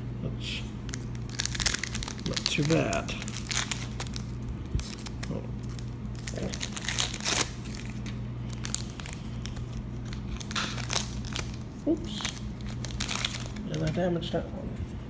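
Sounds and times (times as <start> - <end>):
foil wrapper crinkling: 0.8 - 14.1.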